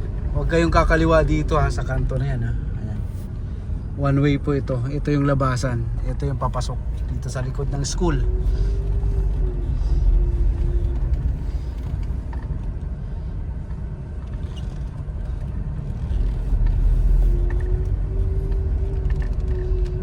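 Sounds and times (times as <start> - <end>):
car engine and road rumble: 0.0 - 20.0
faint hum: 0.0 - 20.0.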